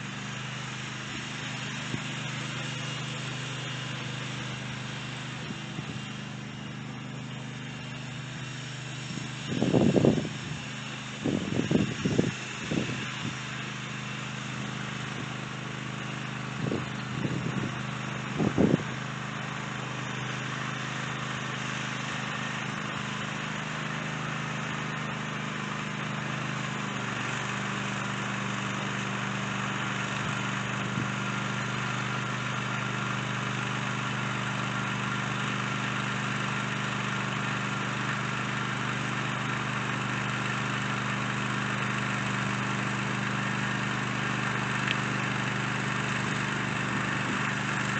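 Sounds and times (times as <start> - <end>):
small gasoline engine running: 0.0 - 47.9.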